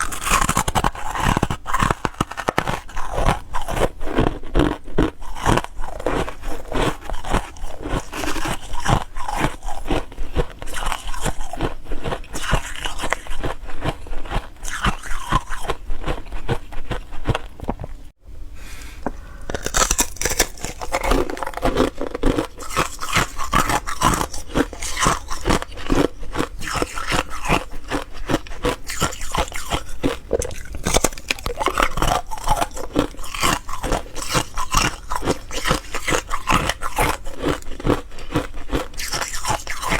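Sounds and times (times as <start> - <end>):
ice crunching being chewed: 0.0 - 18.0, 19.4 - 39.9.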